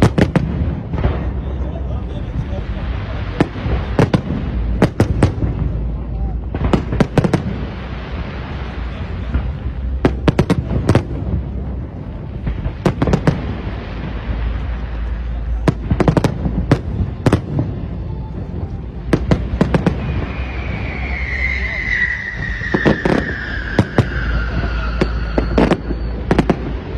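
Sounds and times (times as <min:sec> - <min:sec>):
fireworks bangs: 0:00.0 - 0:26.9
low rumble: 0:00.0 - 0:26.9.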